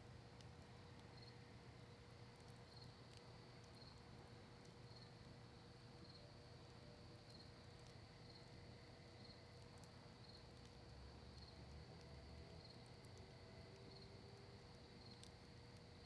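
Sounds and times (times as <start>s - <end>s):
faint campfire crackling: 0.0s - 16.0s.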